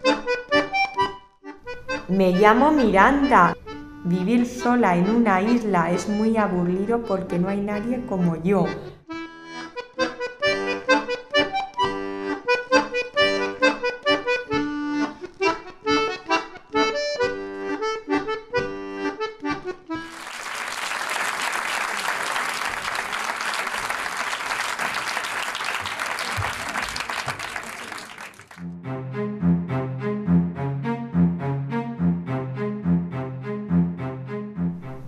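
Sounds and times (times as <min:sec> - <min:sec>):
lively instrumental music: 0:00.0 - 0:35.0.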